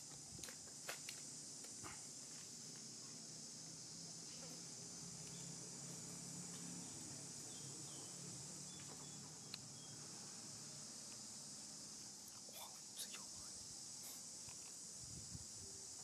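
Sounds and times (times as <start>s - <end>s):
high insect chorus: 0.0s - 16.0s.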